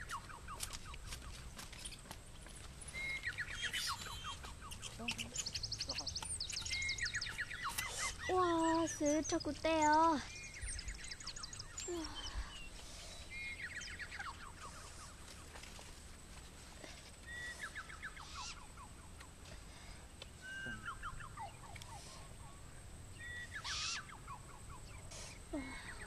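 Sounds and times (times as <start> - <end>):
bird singing: 0.0 - 19.6, 20.4 - 26.0.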